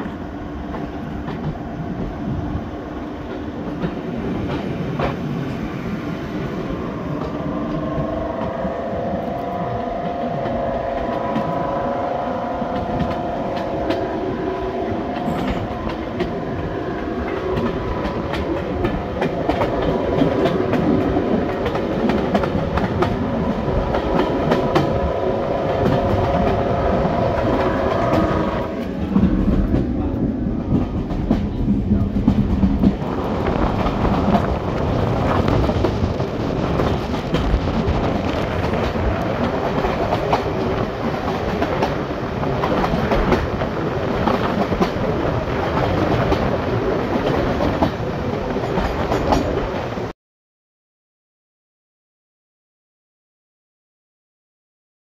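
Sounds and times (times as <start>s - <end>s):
train wheels clacking on track: 0.0s - 2.2s, 3.2s - 5.6s, 7.0s - 50.1s.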